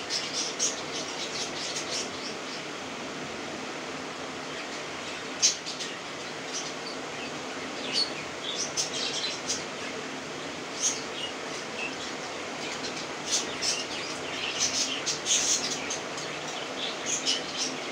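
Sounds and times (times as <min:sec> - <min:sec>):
low background hum: 0:00.0 - 0:17.9.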